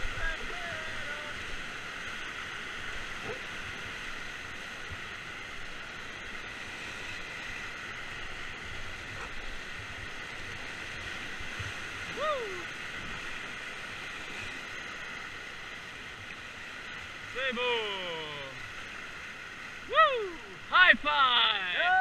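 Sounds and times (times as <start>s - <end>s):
whitewater rapids rushing: 0.0s - 22.0s.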